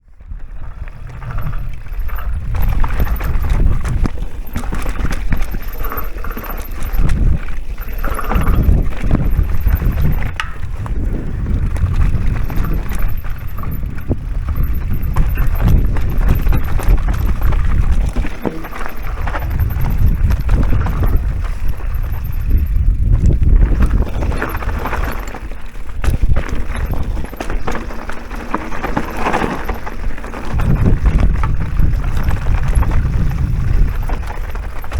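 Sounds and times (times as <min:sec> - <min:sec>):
wind noise on microphone: 0:00.0 - 0:34.9
tyres rolling over rough ground: 0:00.2 - 0:34.9
bike knocks and rattles: 0:00.8 - 0:34.9.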